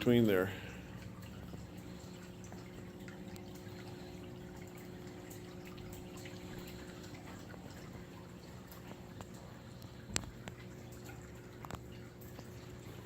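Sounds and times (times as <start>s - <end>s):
low steady hum: 0.0s - 13.0s
water trickling and dripping: 0.0s - 13.0s.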